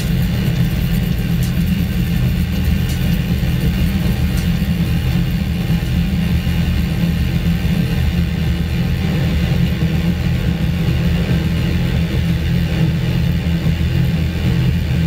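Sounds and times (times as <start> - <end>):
electronic music bass drone: 0.0 - 15.0.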